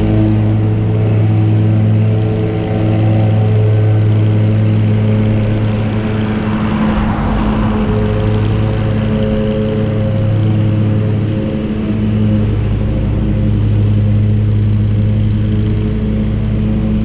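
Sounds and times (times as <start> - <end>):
car passing: 0.0 - 17.0
engine running steadily: 0.0 - 17.0.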